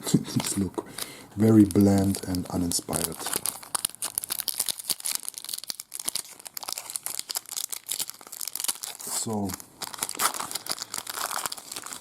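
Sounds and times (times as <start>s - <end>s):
wrapper crinkling and tearing: 0.1s - 12.0s.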